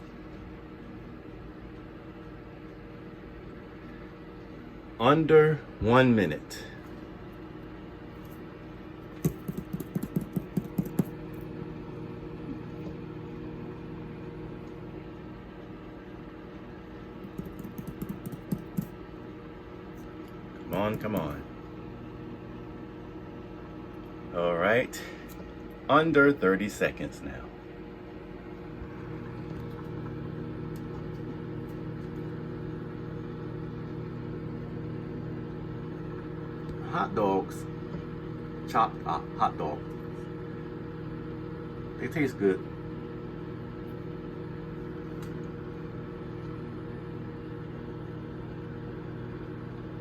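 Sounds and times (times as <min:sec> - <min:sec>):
microwave oven humming: 0:00.0 - 0:50.0.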